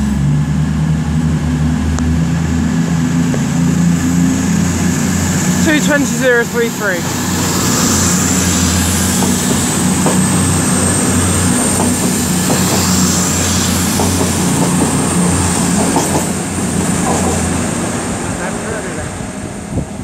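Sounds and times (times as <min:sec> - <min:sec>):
high whine rising in pitch: 0:00.0 - 0:16.8
diesel engines droning: 0:00.0 - 0:20.0.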